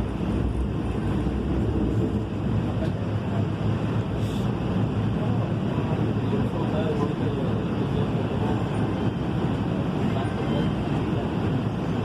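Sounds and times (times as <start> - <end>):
light rail running rumble: 0.0 - 12.0.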